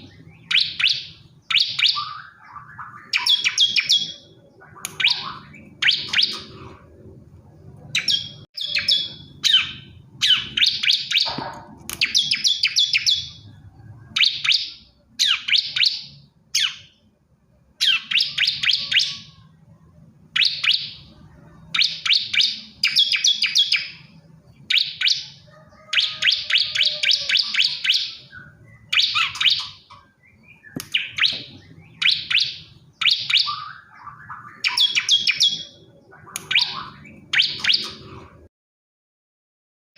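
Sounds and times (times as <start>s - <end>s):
bird singing high chirps: 0.0s - 17.1s, 17.8s - 19.7s, 20.3s - 38.4s.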